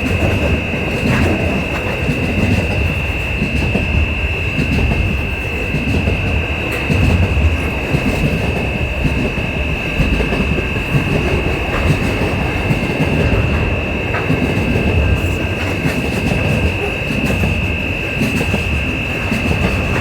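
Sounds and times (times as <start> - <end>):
high-pitched whine: 0.0 - 20.0
train rumbling: 0.0 - 20.0.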